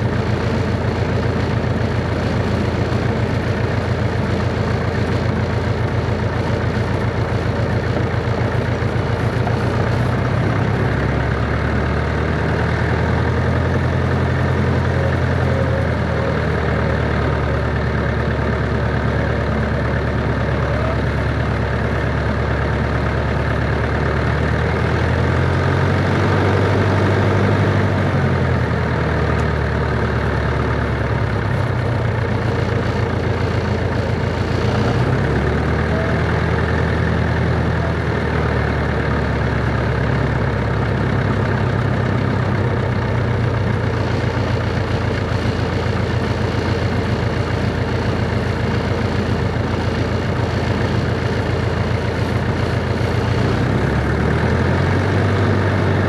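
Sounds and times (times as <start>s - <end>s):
light aircraft engine idling: 0.0s - 56.0s.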